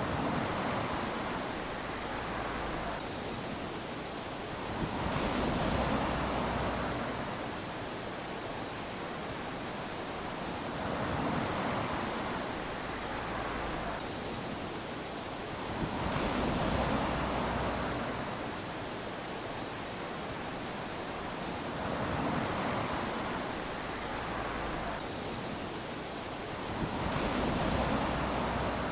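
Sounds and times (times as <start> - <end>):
small waves lapping on sand: 0.0 - 28.9.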